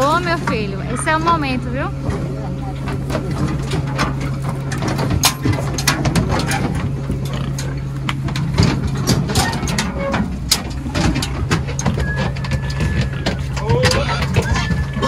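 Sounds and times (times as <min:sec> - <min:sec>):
truck engine idling: 0:00.0 - 0:15.0
irregular clicks and knocks: 0:02.0 - 0:15.0.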